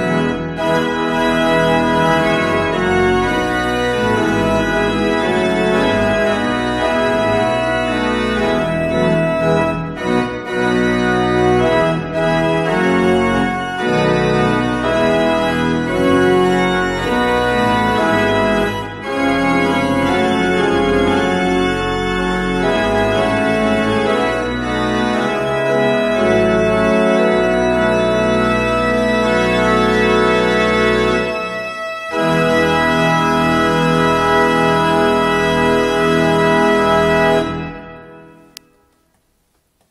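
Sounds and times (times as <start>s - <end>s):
pipe organ chords: 0.0s - 38.9s.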